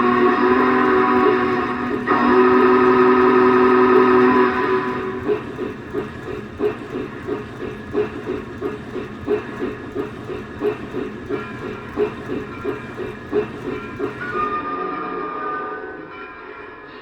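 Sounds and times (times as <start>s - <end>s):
model steam locomotive chuffing: 0.0s - 15.9s.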